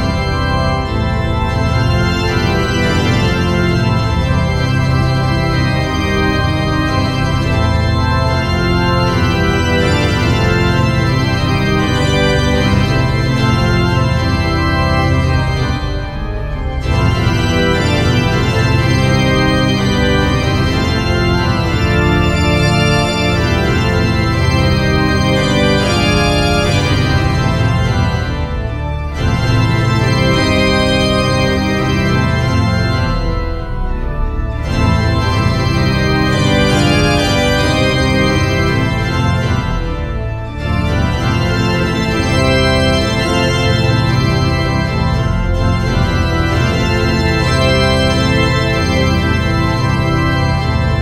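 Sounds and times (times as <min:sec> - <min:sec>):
organ-like keyboard chords: 0:00.0 - 0:51.0.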